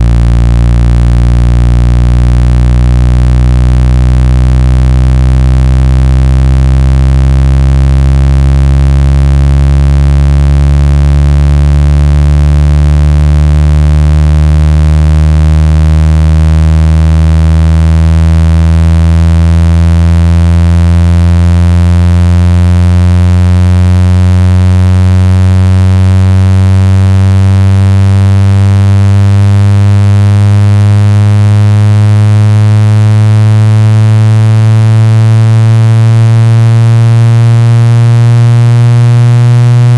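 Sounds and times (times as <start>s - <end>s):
deep buzzing rising tone: 0.0s - 39.9s.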